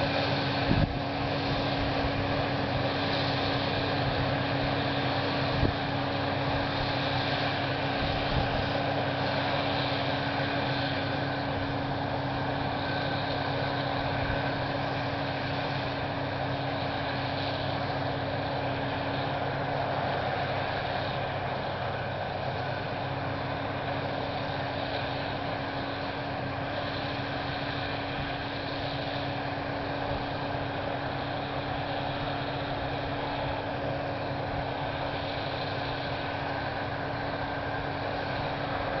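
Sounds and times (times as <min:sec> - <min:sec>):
tractor diesel engine and baler hum: 0:00.0 - 0:39.0.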